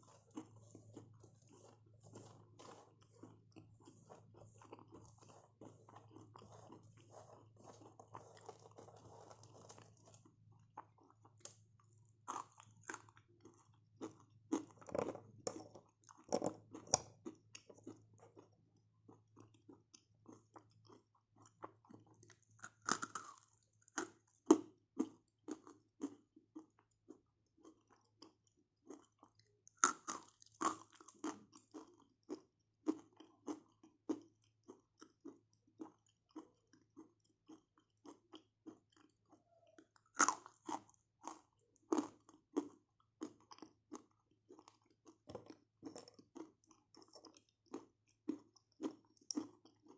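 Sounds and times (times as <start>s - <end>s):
person chewing crunchy clay: 0.0s - 49.9s.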